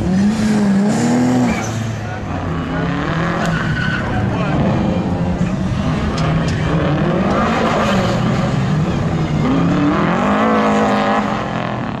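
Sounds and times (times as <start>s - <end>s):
car engine revving hard: 0.0s - 3.6s, 4.4s - 12.0s.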